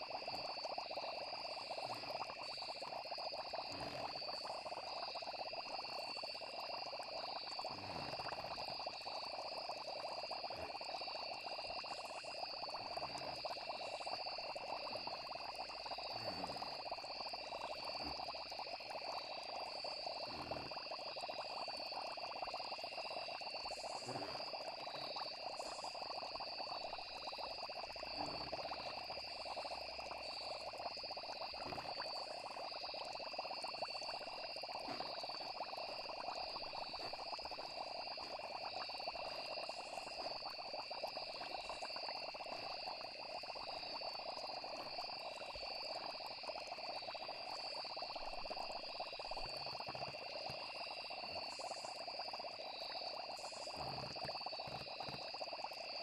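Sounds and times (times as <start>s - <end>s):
frogs chirping: 0.0s - 56.0s
insects chirping: 0.0s - 56.0s.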